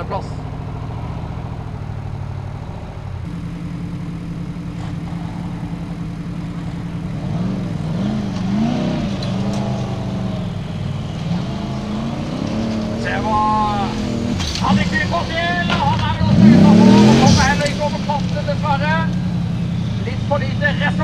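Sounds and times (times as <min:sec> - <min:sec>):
buggy engine revving: 0:00.0 - 0:21.0.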